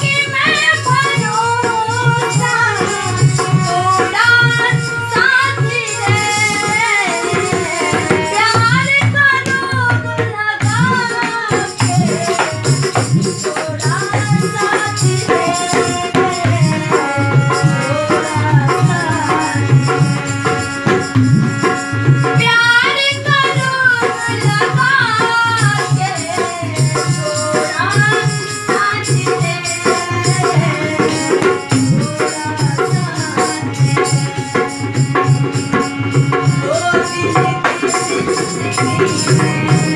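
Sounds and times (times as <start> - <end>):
dholak drum beat: 0.0 - 39.9
harmonium: 0.0 - 39.9
woman singing: 0.0 - 39.9.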